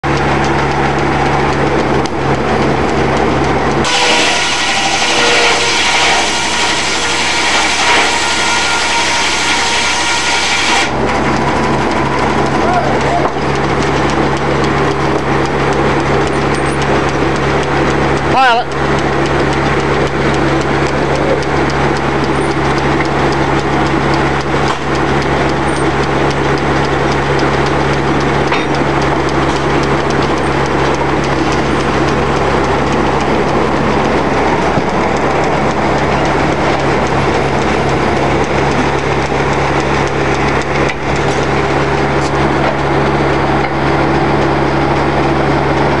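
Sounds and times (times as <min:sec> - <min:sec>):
sawmill machine drone: 0:00.0 - 0:46.0.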